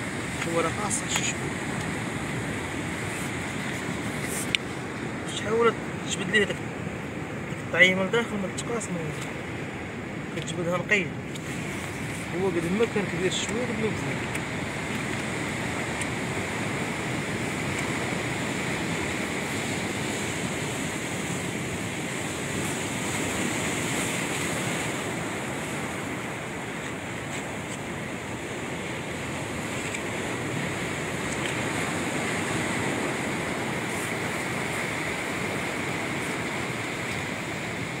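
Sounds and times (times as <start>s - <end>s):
wind on microphone: 0.0s - 7.8s, 11.1s - 38.0s
sea surf washing ashore: 0.0s - 38.0s.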